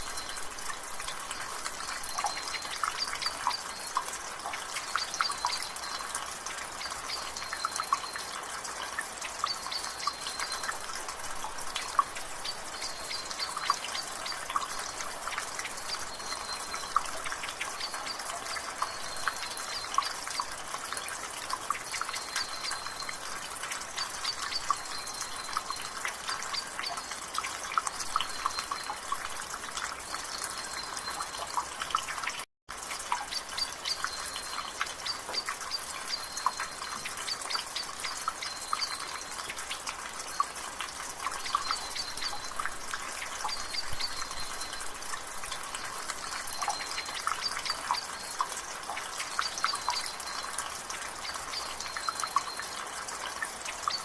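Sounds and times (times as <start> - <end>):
steady rain: 0.0 - 54.0
water dripping from a gutter: 0.0 - 54.0.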